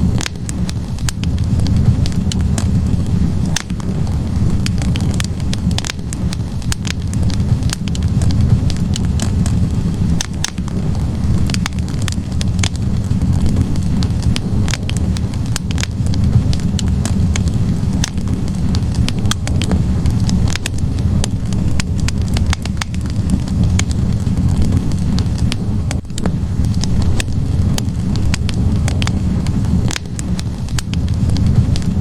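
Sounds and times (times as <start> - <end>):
fire roaring: 0.0 - 32.0
logs crackling and popping: 0.0 - 32.0.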